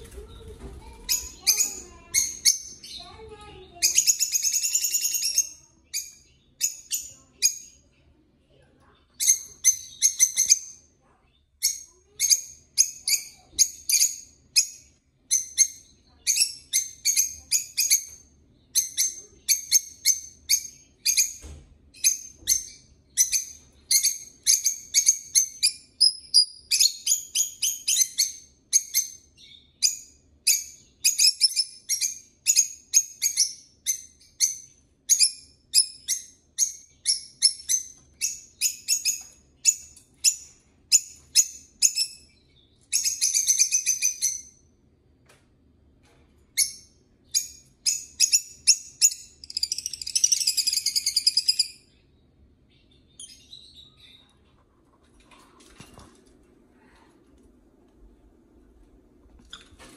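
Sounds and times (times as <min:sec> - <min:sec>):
birds chirping: 0:00.0 - 0:44.7, 0:46.5 - 0:54.6.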